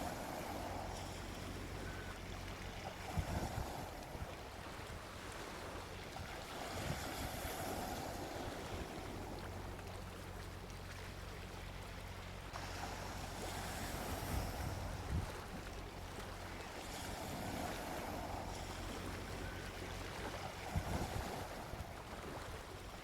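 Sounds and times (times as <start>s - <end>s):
sea waves washing onto beach: 0.0s - 23.0s.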